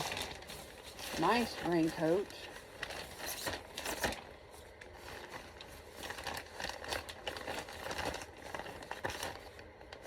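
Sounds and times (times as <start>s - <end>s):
raincoat crinkling and rustling: 0.0s - 10.0s.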